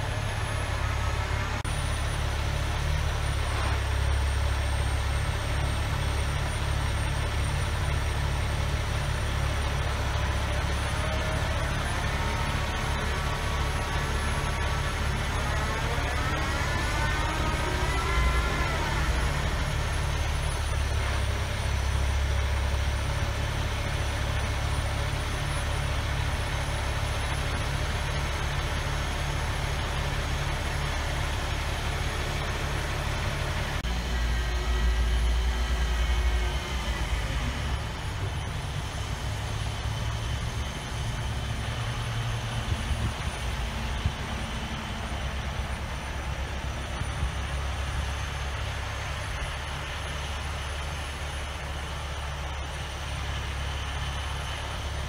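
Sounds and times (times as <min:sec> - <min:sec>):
crane diesel engine running: 0:00.0 - 0:55.0.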